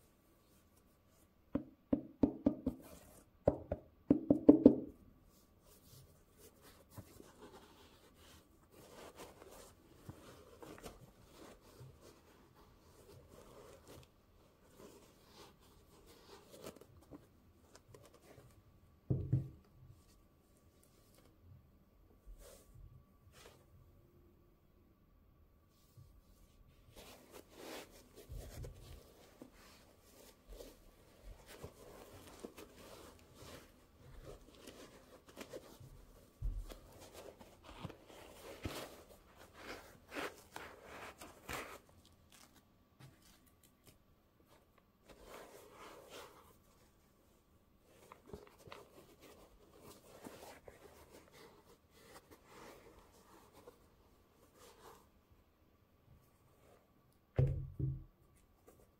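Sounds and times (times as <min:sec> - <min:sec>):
rustling and light scratching: 0:05.2 - 0:18.7, 0:19.6 - 0:21.5, 0:22.2 - 0:23.8, 0:25.6 - 0:57.3, 0:58.2 - 0:58.9.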